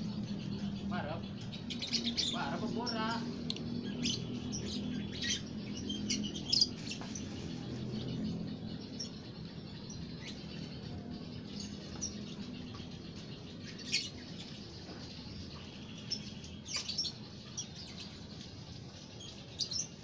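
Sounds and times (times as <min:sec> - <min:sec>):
lovebirds chirping: 0:00.0 - 0:20.0.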